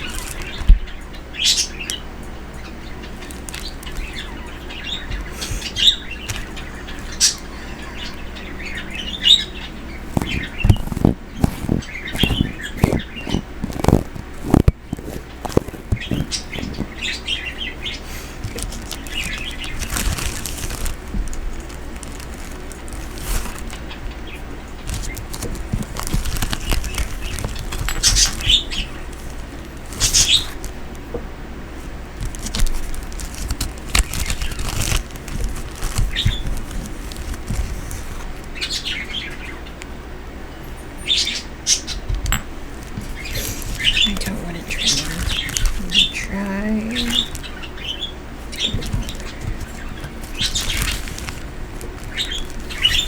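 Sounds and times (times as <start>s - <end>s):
clicks and rustles of handling: 0.0s - 1.1s, 1.8s - 8.4s, 9.9s - 40.0s, 41.8s - 53.0s
pet bird chirping: 0.0s - 31.2s, 32.0s - 53.0s.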